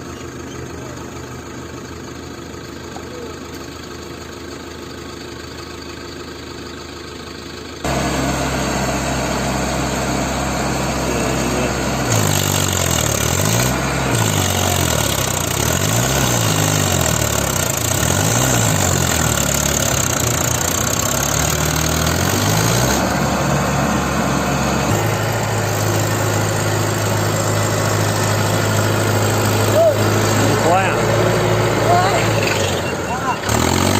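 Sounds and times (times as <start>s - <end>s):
tractor diesel engine revving: 0.0s - 33.9s.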